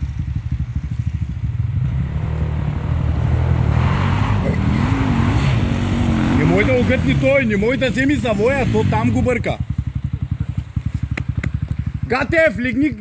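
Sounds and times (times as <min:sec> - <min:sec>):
dirt bike engine: 0:00.0 - 0:13.0.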